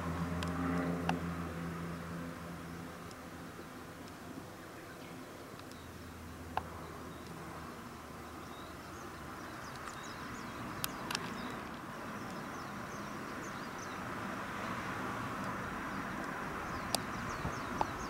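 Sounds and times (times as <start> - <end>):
distant traffic hum: 0.0 - 18.0
small birds chirping: 2.7 - 18.0.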